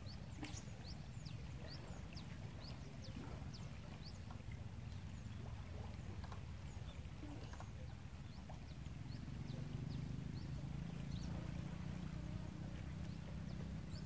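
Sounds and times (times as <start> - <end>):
birds chirping: 0.0 - 6.0, 6.6 - 14.0.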